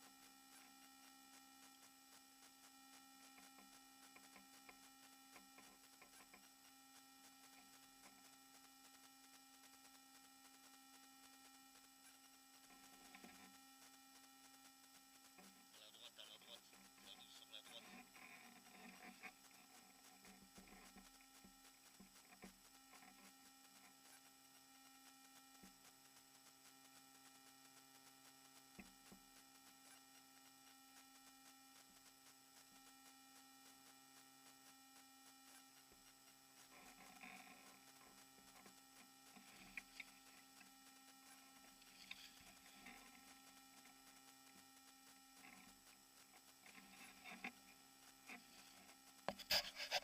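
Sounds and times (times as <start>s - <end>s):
faint clicks and rustles: 0.0s - 50.0s
faint electrical hum and whine: 0.0s - 50.0s.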